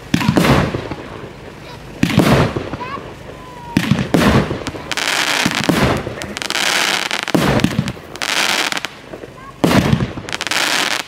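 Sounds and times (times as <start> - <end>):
crackling hiss of falling stars: 0.0 - 11.0
firework shells bursting: 0.0 - 11.0.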